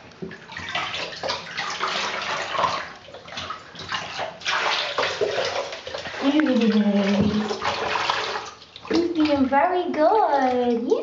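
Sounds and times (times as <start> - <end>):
bathwater splashing: 0.0 - 11.0.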